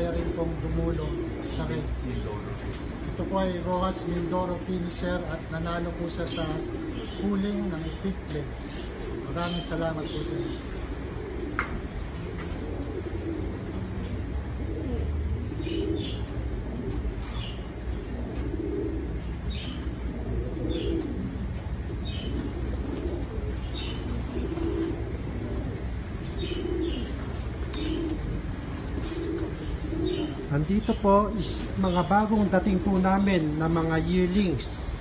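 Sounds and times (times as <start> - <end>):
low steady hum: 0.0 - 35.0
pigeons cooing: 0.0 - 35.0.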